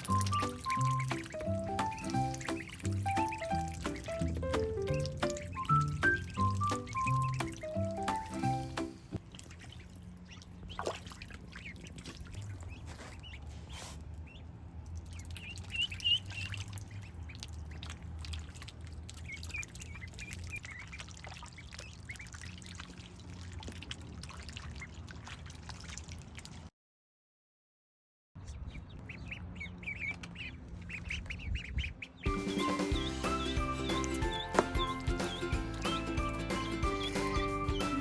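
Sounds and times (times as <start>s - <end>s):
water splashing and dribbling: 0.0s - 14.1s, 14.8s - 26.7s, 32.3s - 38.0s
ducklings peeping: 0.0s - 26.2s, 28.4s - 38.0s.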